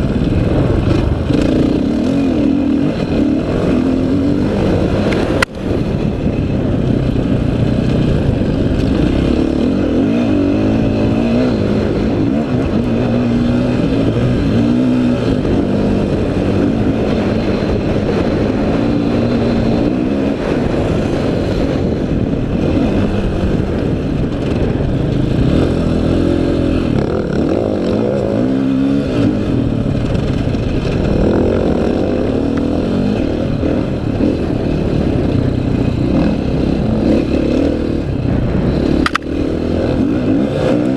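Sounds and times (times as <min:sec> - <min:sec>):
dirt bike engine revving: 0:00.0 - 0:05.4, 0:06.6 - 0:40.9
steady rushing noise: 0:00.0 - 0:40.9.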